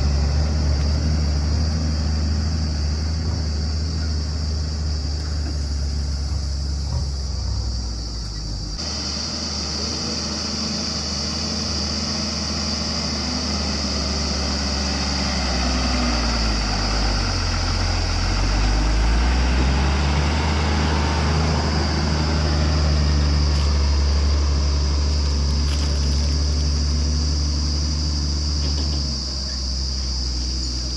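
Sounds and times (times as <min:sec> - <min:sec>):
heavy diesel engine revving: 0:00.0 - 0:30.9.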